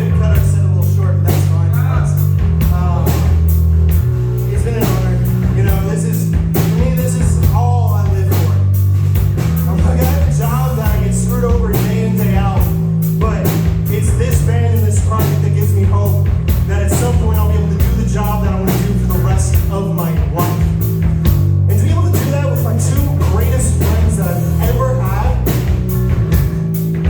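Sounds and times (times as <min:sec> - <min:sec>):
drum kit beat: 0:00.0 - 0:27.0
live rock band playing: 0:00.0 - 0:27.0.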